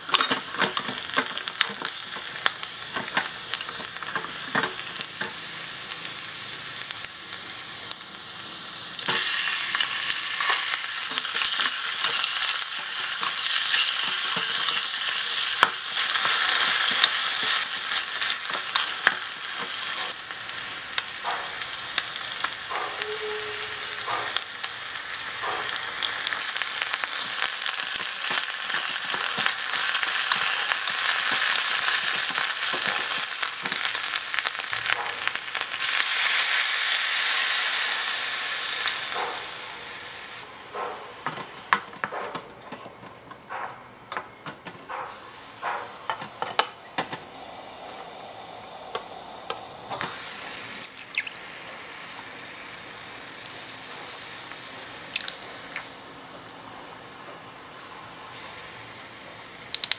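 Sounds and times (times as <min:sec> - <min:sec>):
meat sizzling in hot oil: 0:00.0 - 0:40.5, 0:47.3 - 0:59.9.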